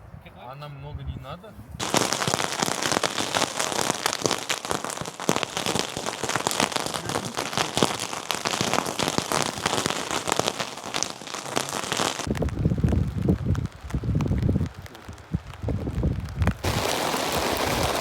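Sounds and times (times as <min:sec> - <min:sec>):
heavy rain: 0:01.8 - 0:18.0.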